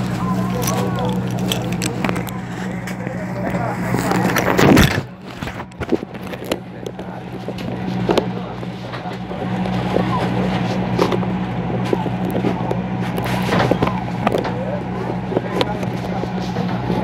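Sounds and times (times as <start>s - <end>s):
boat engine droning: 0.0s - 17.0s
faint voices: 0.0s - 17.0s.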